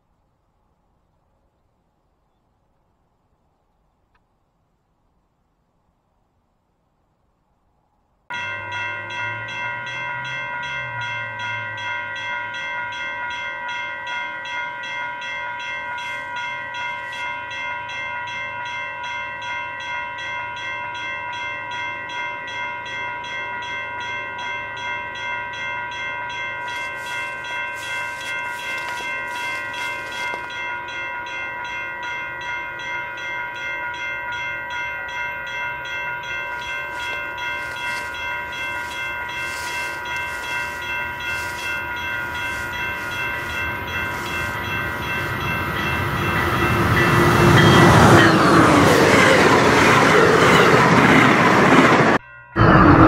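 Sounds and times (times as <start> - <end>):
railroad crossing bell ringing: 8.3 - 53.0.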